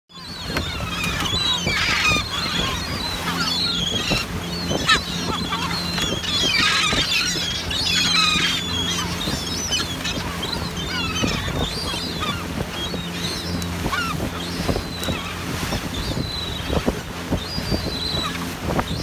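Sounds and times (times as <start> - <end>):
boat engine humming: 0.1 - 19.0
gulls squawking: 0.1 - 19.0.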